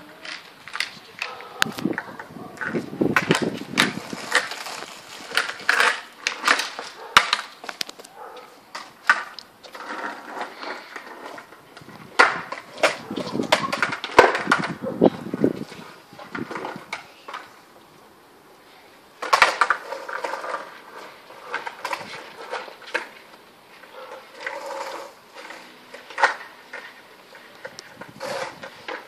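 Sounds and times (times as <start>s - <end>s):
skateboard decks clacking: 0.0s - 17.8s, 19.1s - 29.0s
skateboards rolling on asphalt: 0.0s - 29.0s.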